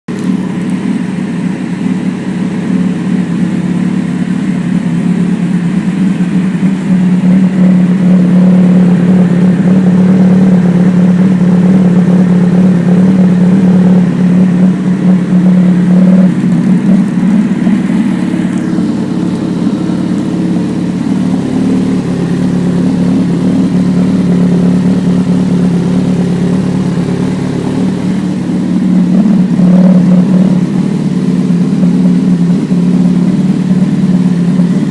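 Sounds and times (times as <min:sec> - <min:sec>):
motorcycle engine running loud: 0:00.1 - 0:34.9.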